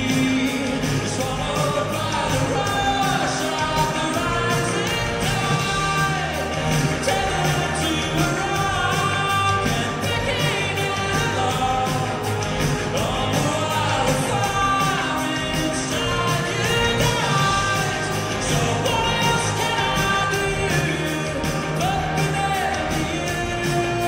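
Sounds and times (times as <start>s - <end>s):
man singing into microphone: 0.0s - 24.0s
pop-rock band playing: 0.0s - 24.0s.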